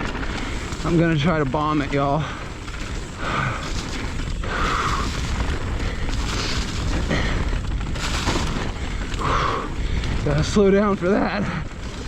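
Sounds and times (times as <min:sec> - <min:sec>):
bike rattling: 0:00.0 - 0:12.0
tyres rolling over dirt: 0:00.0 - 0:12.0.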